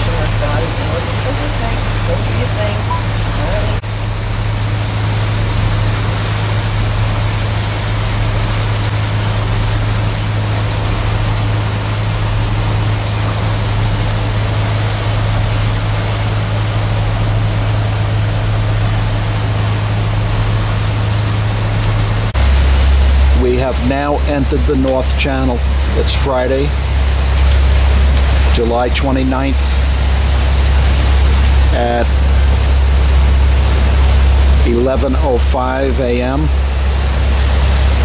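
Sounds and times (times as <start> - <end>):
boat engine droning: 0.0 - 38.0
water rushing: 0.0 - 38.0
wind: 0.0 - 38.0.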